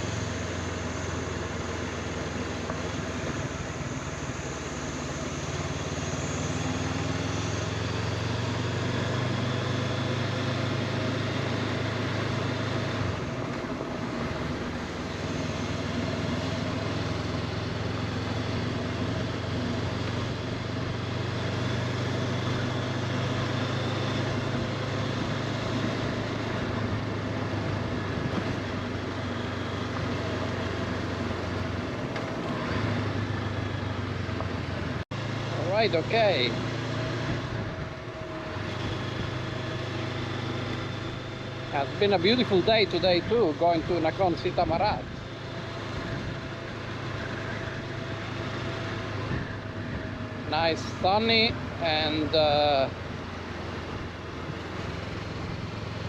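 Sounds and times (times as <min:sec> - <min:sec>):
vehicle engine droning: 0:00.0 - 0:56.0
wind or road noise: 0:00.0 - 0:56.0.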